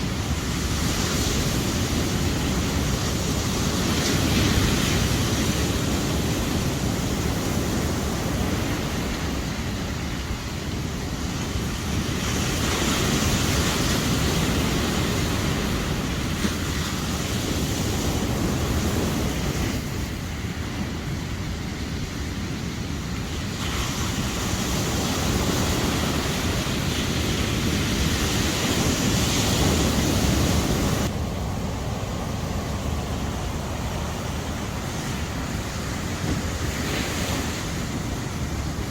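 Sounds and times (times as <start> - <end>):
sea surf washing onto beach: 0.0 - 38.9.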